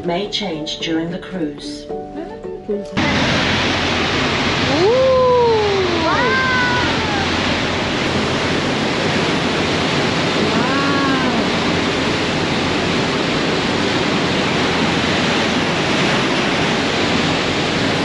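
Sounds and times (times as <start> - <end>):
churning water: 3.0 - 18.0
wind rushing: 3.0 - 18.0.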